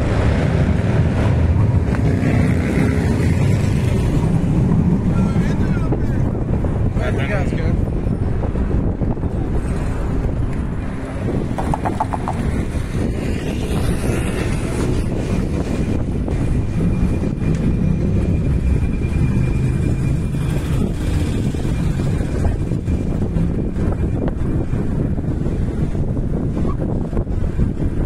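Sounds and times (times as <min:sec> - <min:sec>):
city traffic: 0:00.0 - 0:28.0
wind rumble on microphone: 0:00.0 - 0:28.0.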